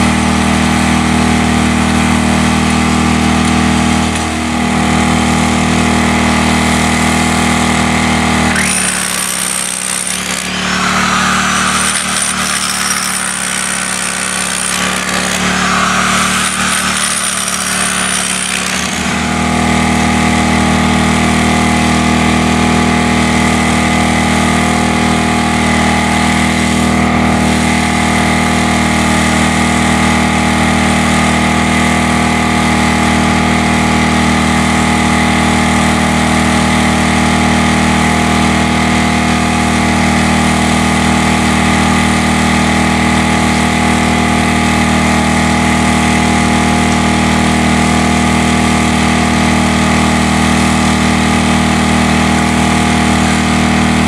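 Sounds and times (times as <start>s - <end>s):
hammer drill drilling concrete: 0.0s - 54.0s.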